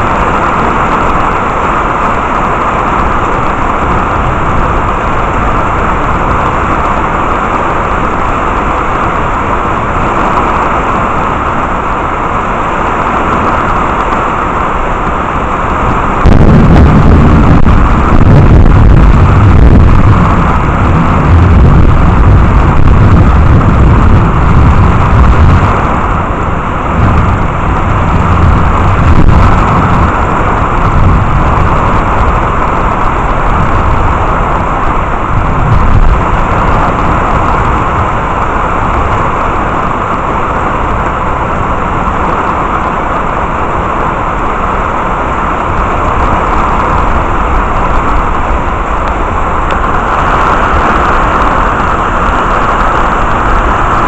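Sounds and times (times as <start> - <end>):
heavy rain pouring: 0.0 - 54.0
thunder rumbling: 0.0 - 54.0.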